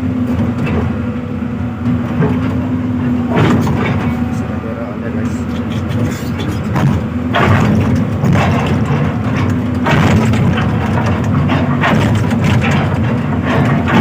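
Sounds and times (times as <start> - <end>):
excavator diesel engine: 0.0 - 14.0
hydraulic surges: 0.2 - 14.0.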